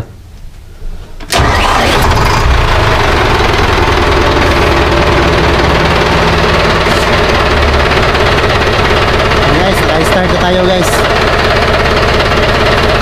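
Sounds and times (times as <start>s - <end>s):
boat engine starting and running: 1.2s - 13.0s.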